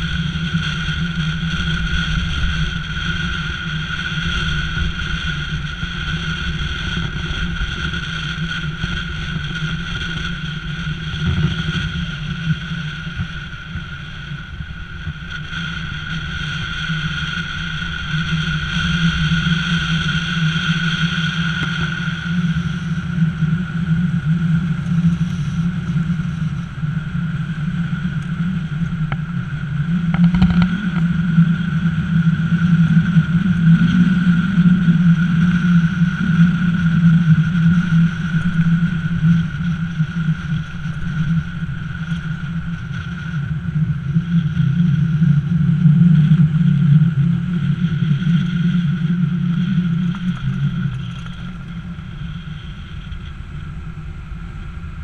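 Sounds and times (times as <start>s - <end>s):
car engine drone: 0.0s - 55.0s
wind on microphone: 0.0s - 55.0s.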